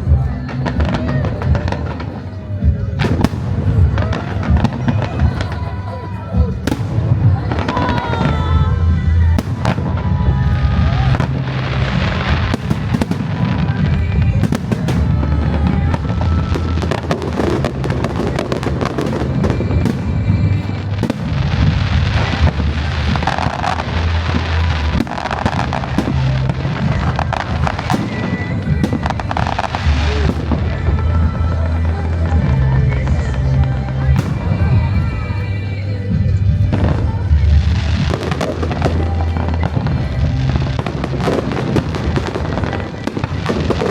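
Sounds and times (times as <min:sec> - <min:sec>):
fireworks bangs and crackling: 0:00.0 - 0:43.9
loud music with heavy bass: 0:00.0 - 0:43.9.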